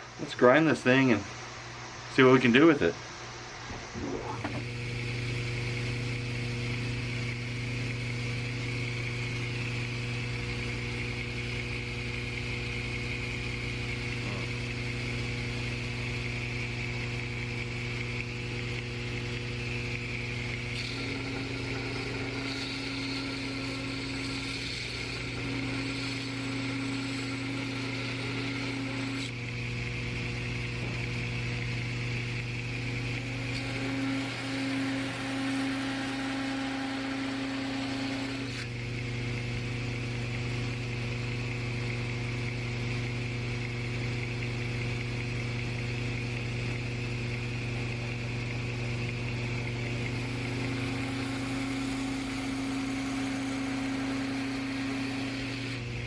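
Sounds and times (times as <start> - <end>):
belt grinder motor hum: 3.9 - 43.3, 46.2 - 56.0.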